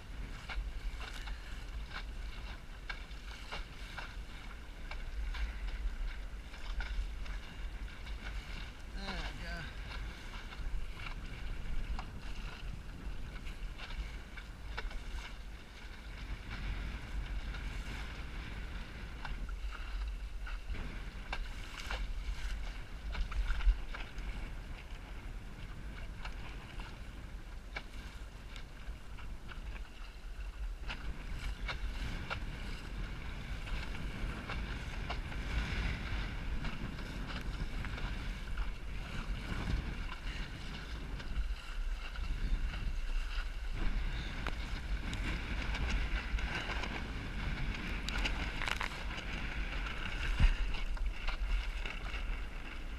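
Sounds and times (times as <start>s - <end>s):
water splashing around boat: 0.0s - 52.9s
wind buffeting microphone: 0.0s - 52.9s.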